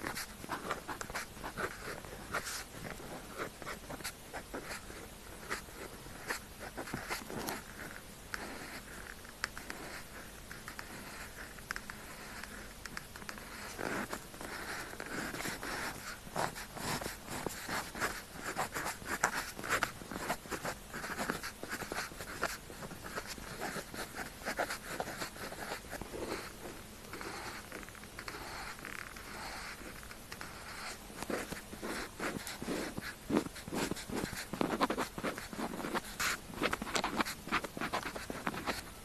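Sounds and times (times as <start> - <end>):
pen scratching on paper: 0.0 - 39.0.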